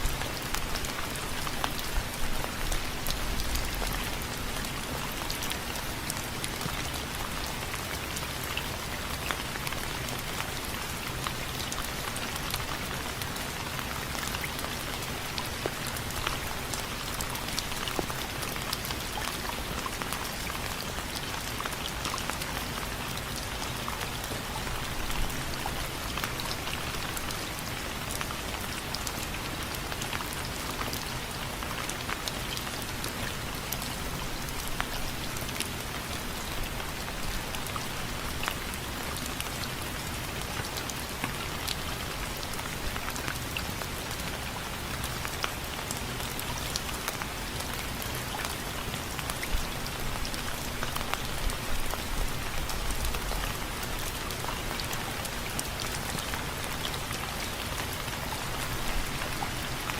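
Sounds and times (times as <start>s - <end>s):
rain on window frames: 0.0s - 59.9s.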